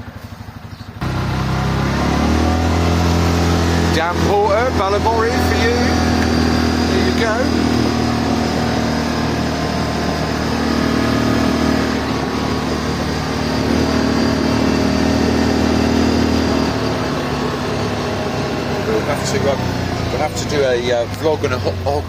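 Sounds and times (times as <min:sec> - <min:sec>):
buggy engine running: 0:00.0 - 0:22.0.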